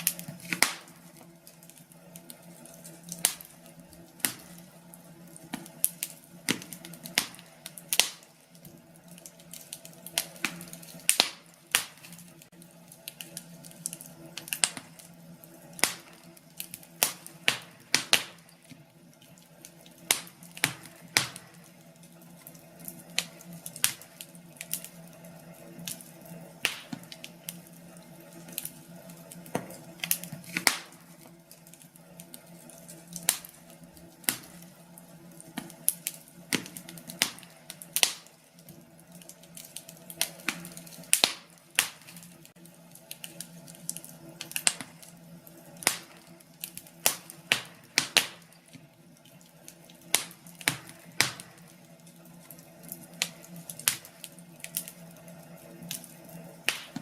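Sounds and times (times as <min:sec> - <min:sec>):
steady low hum: 0:00.0 - 0:57.0
wood fire crackling and popping: 0:00.0 - 0:57.0.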